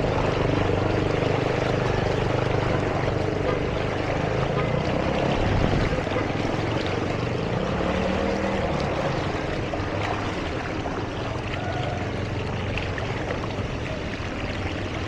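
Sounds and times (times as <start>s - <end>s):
vehicle engine running: 0.0s - 15.0s
water splashing: 0.0s - 15.0s.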